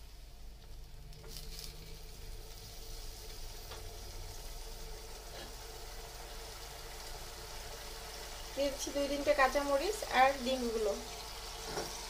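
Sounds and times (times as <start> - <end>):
sauce simmering and bubbling: 0.2 - 12.0.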